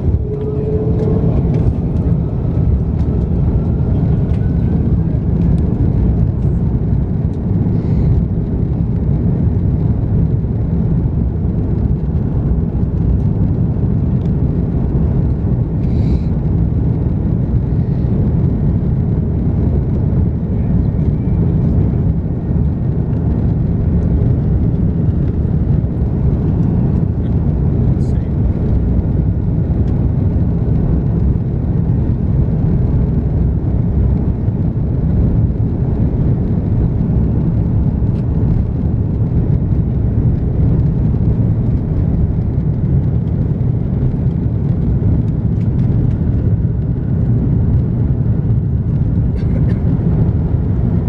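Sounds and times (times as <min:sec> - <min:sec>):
aircraft cabin rumble while taxiing: 0:00.0 - 0:51.0.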